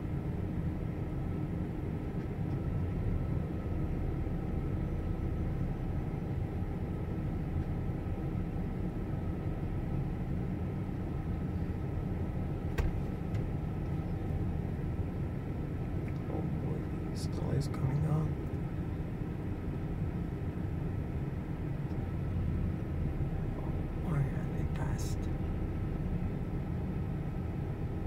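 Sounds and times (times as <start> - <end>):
faint steady hum: 0.0 - 28.0
vehicle engines idling: 1.3 - 28.0.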